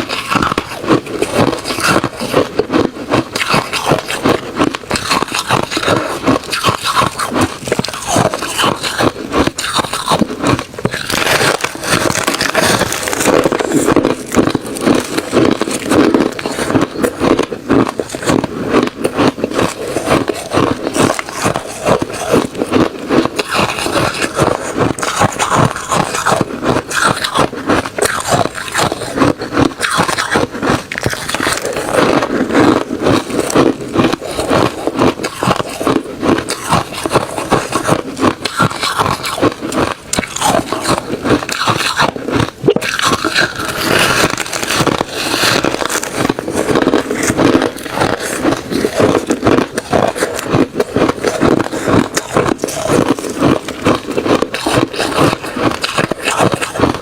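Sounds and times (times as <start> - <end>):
person crunching ice: 0.0 - 57.0.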